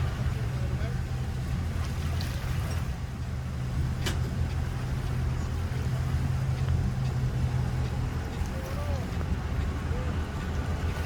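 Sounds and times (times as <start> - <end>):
engine running low: 0.0 - 11.0.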